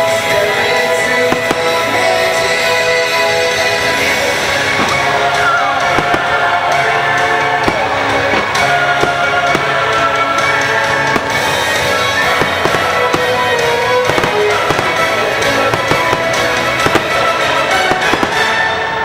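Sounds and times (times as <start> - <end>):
fireworks bursting: 0.0 - 19.0
music over loudspeakers: 0.0 - 19.0.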